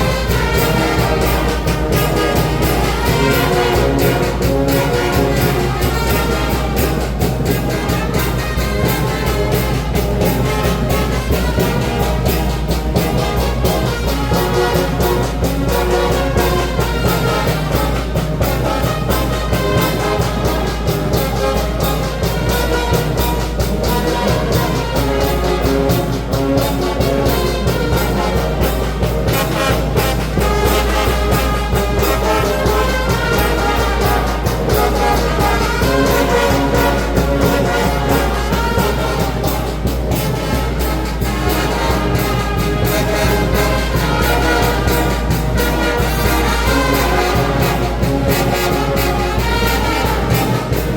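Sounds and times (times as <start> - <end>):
brass band playing: 0.0 - 50.9
steady drum beat: 0.0 - 50.9.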